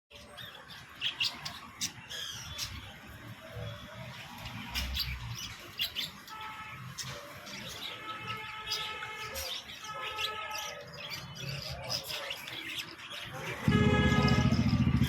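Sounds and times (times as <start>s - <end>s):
budgerigars chirping and chattering: 0.1s - 15.0s.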